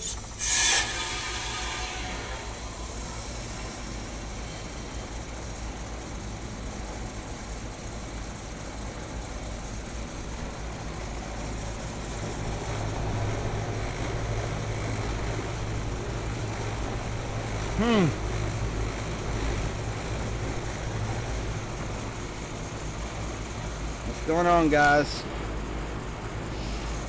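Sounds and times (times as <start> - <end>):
air conditioner low hum: 0.0 - 27.0.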